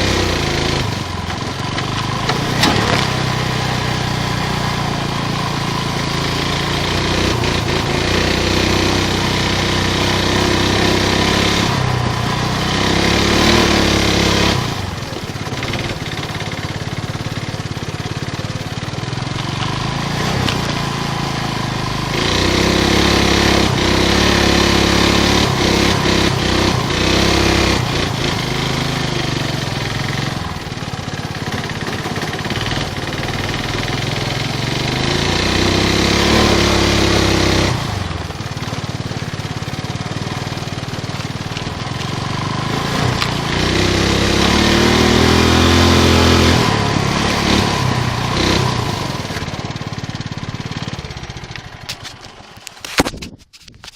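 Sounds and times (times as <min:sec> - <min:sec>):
single-cylinder engine running hard: 0:00.0 - 0:53.0.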